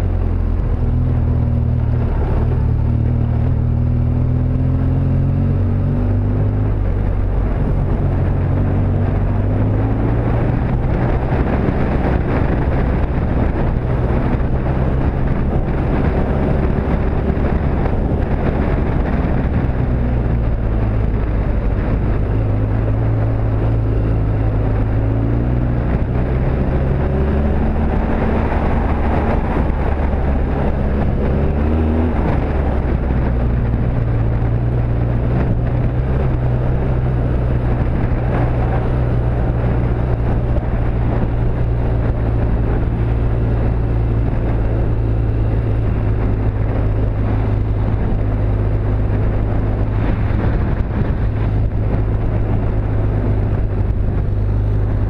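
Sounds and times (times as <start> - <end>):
motorcycle engine revving: 0.0 - 55.0
steady rushing noise: 0.0 - 55.0.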